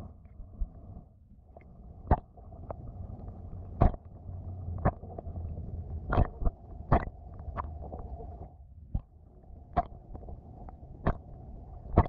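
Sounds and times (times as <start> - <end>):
muffled underwater water wash: 0.0 - 12.0.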